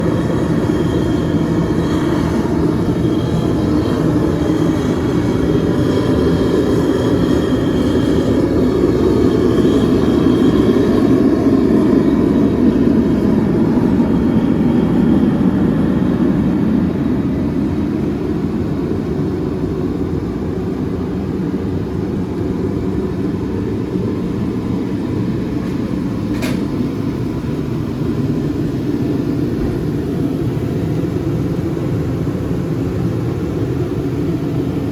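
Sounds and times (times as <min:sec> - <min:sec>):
heater fan and burner rushing: 0:00.0 - 0:34.9.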